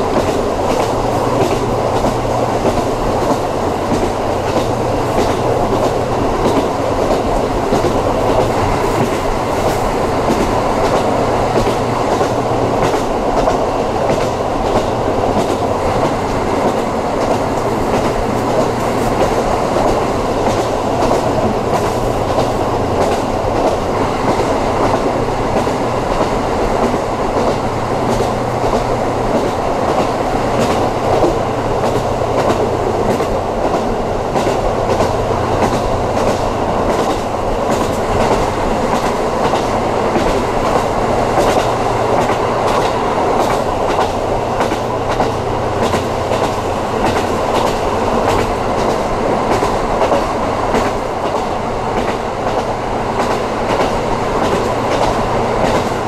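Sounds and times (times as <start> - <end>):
wheels clicking over rail joints: 0.0 - 56.0.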